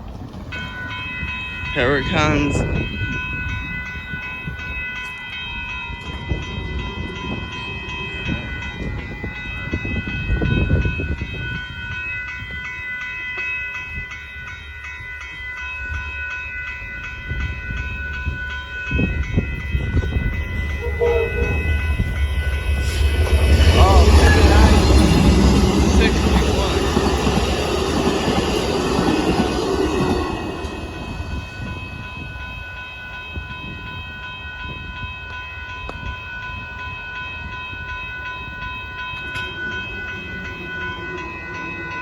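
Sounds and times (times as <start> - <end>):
railroad crossing bell ringing: 0.0 - 42.0
train rumble: 0.0 - 42.0.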